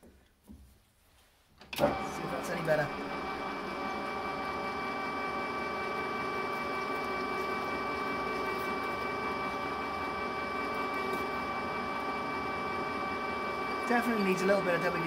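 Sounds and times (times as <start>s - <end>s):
lathe running: 1.8s - 15.0s
lathe tool squeaking: 1.8s - 15.0s.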